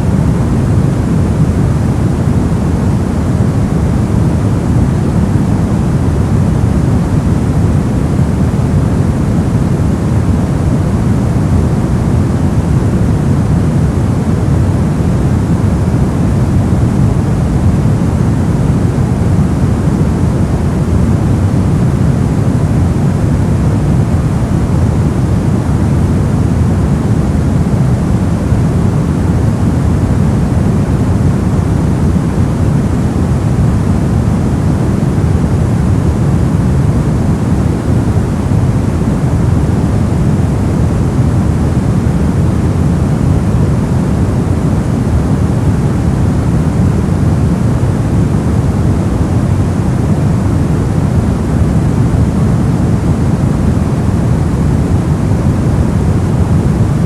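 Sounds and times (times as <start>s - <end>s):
deep steady hiss noise: 0.0s - 57.0s.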